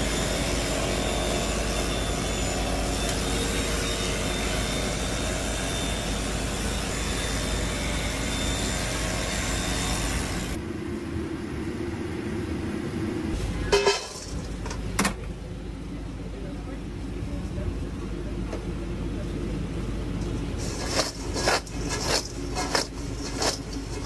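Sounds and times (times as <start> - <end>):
kitchen machinery whir: 0.0 - 10.6, 12.0 - 15.4, 18.0 - 24.0.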